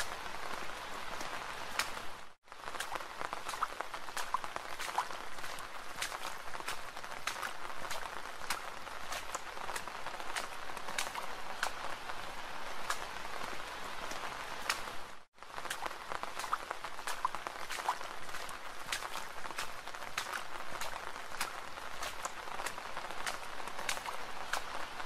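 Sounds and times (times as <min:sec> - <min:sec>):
raindrops ticking: 0:00.0 - 0:25.0
soft steady rain: 0:00.0 - 0:25.0.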